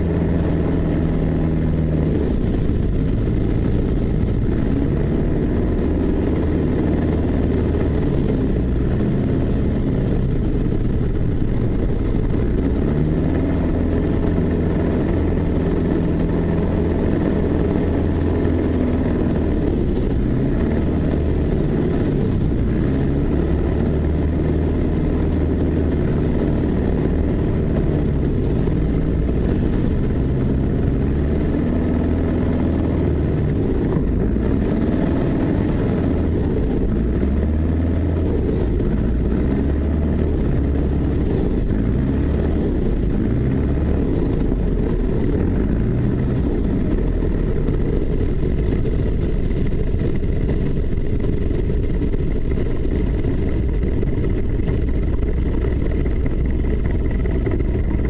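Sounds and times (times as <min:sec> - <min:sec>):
propeller plane engine running: 0:00.0 - 0:58.0.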